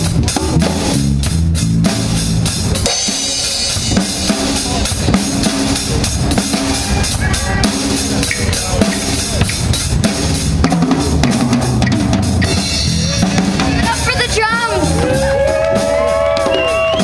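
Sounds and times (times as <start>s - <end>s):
bass line: 0.0s - 17.0s
drum kit beat: 0.0s - 17.0s
live band music: 0.0s - 17.0s.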